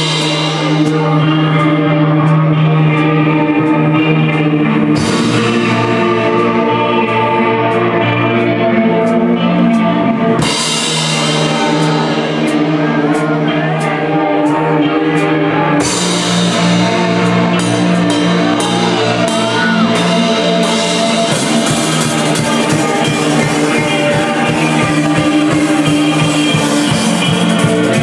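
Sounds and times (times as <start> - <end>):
drum kit steady beat: 0.0 - 3.7, 4.3 - 6.8, 9.1 - 28.0
effects-laden guitar tones: 0.0 - 28.0.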